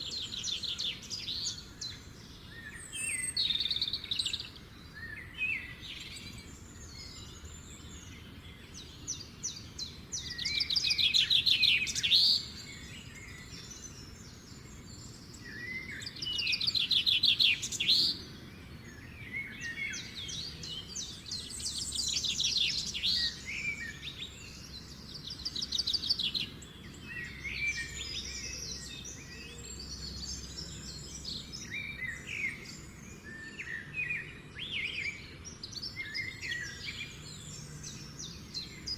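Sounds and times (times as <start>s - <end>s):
birds singing and chirping: 0.0s - 38.9s
loud trilled bird song: 0.0s - 38.9s.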